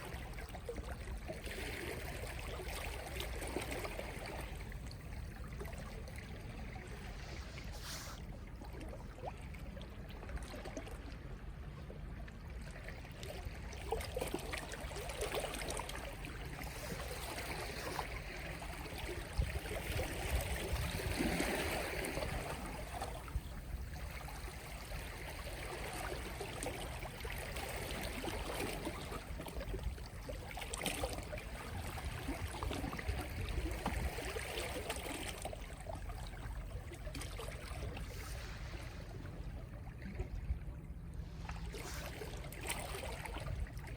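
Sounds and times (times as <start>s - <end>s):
sea waves lapping on shore: 0.0s - 43.9s.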